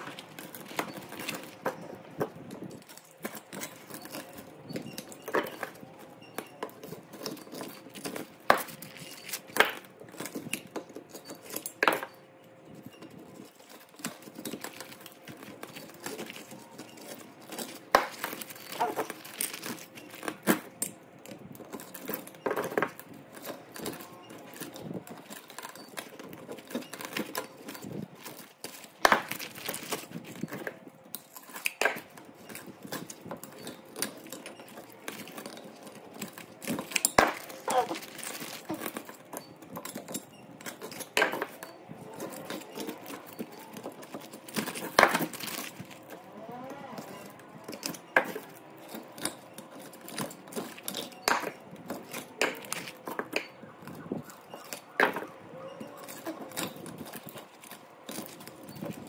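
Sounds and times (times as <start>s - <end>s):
hand tools clinking on metal: 0.0s - 59.0s.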